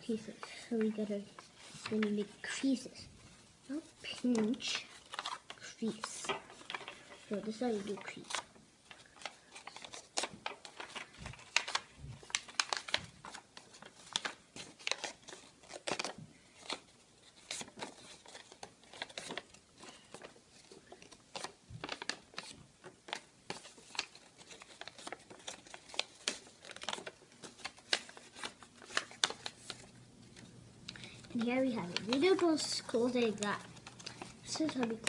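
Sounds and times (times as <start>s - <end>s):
paper crinkling and crackling: 0.0s - 35.0s.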